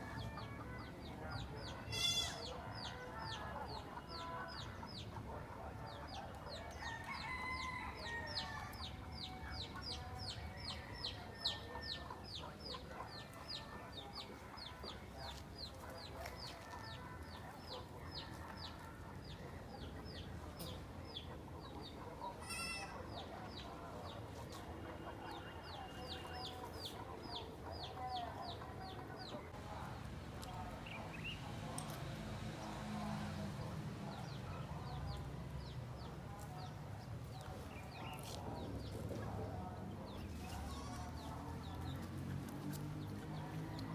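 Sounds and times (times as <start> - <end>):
chickens clucking: 0.0 - 7.4, 8.3 - 43.9.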